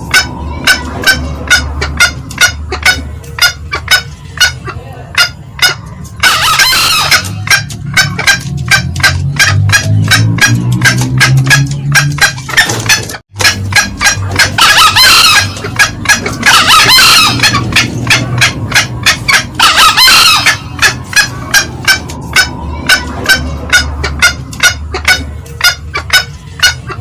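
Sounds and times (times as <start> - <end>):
junglefowl cackling notes: 0.0 - 27.0
junglefowl crowing: 0.0 - 27.0.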